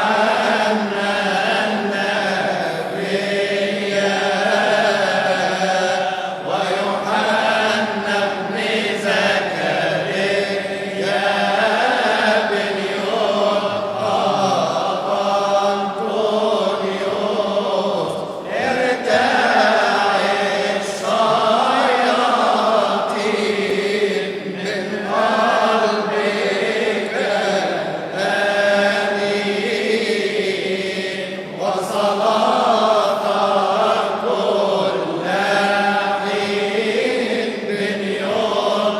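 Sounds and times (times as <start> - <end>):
man chanting a hymn: 0.0 - 38.9.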